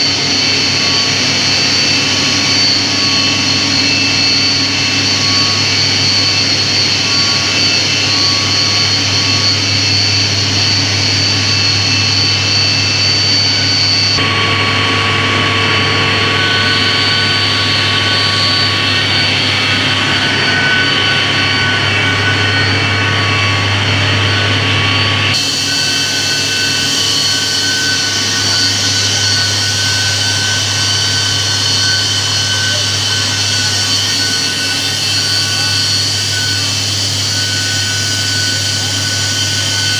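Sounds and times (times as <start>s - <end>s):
turbine generator drone: 0.0s - 39.9s.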